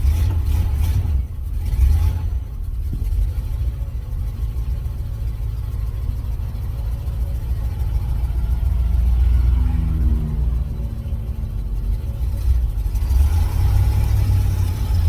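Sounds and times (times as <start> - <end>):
engine and road rumble in cab: 0.0 - 15.0.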